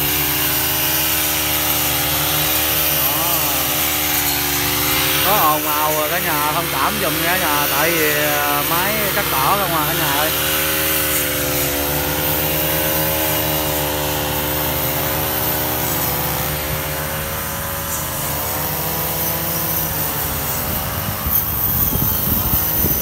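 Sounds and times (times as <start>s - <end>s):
brush cutters running: 0.0s - 23.0s.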